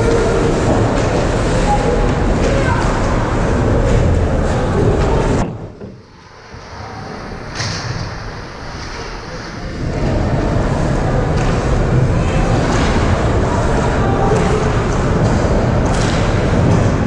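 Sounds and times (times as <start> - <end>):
loud muffled rumble: 0.0 - 17.0.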